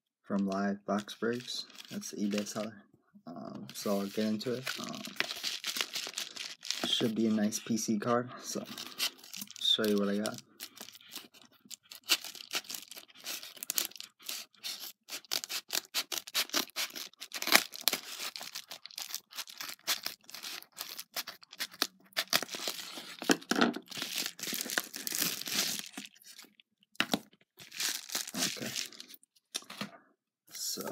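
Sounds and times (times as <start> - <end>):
paper crinkling and rustling: 0.4 - 2.7, 3.7 - 7.8, 8.5 - 29.8.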